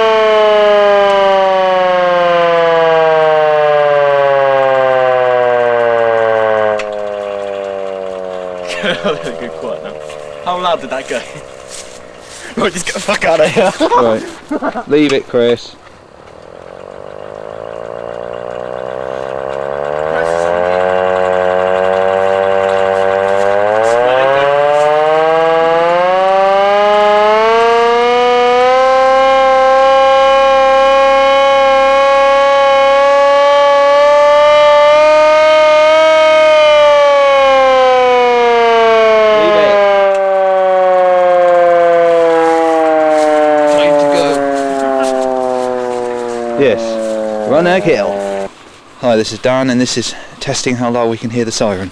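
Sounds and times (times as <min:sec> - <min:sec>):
hand-cranked air raid siren: 0:00.0 - 0:50.0.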